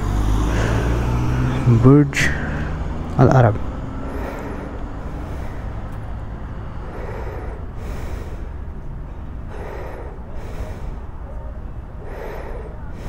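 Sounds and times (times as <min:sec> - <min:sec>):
close breathing on microphone: 0:00.0 - 0:13.0.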